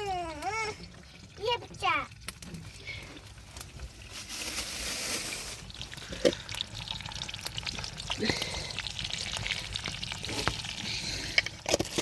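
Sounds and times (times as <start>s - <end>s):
water pouring and trickling: 0.0s - 12.0s.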